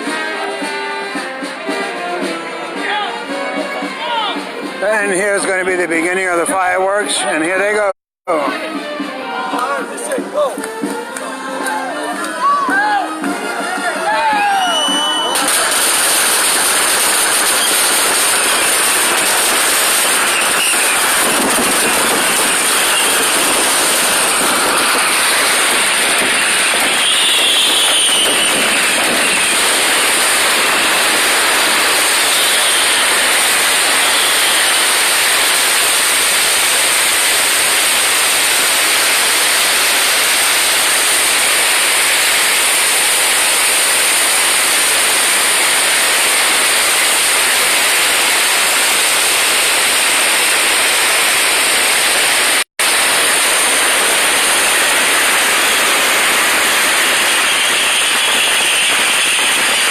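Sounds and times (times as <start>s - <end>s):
fireworks crackling: 0.0s - 59.9s.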